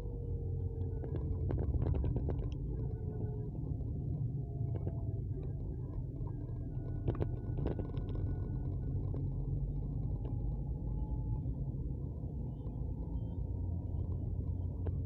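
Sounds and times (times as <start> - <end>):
vehicle rumbling on road: 0.0 - 15.0.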